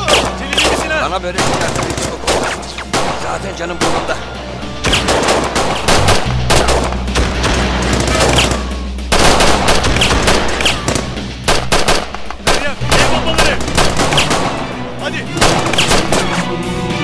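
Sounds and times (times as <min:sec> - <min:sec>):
automatic gunfire: 0:00.1 - 0:03.2, 0:04.9 - 0:14.6, 0:15.4 - 0:16.4.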